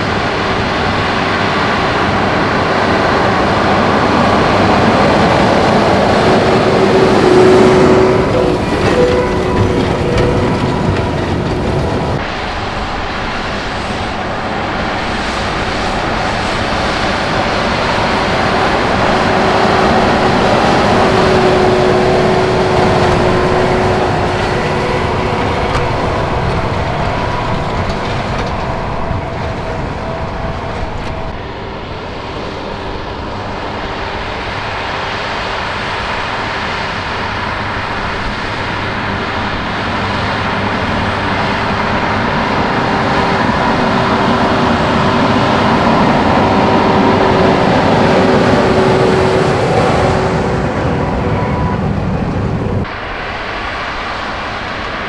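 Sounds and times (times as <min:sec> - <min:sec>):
baler machinery: 0:00.0 - 0:55.0
steady whine: 0:00.0 - 0:55.0
tractor diesel engine under load: 0:00.0 - 0:55.0.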